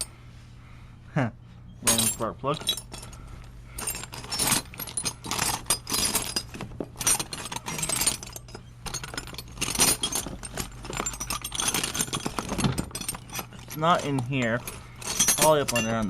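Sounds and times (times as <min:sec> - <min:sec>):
metal tools clinking and rattling: 0:01.8 - 0:16.0.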